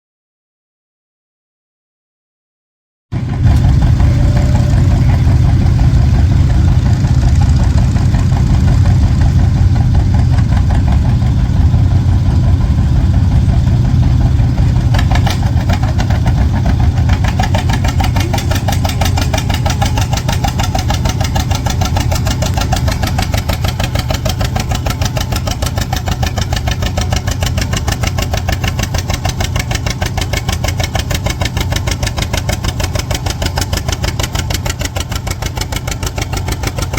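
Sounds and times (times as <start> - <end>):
tractor engine running: 3.1 - 36.9.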